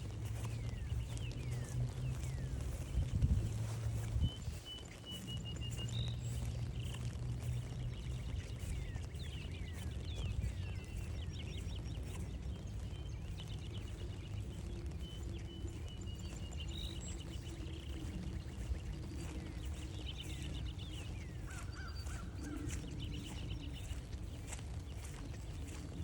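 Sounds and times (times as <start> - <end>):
birds chirping and trilling: 0.0 - 26.0
light rain ticking: 0.0 - 26.0
wind rumble on microphone: 0.0 - 26.0.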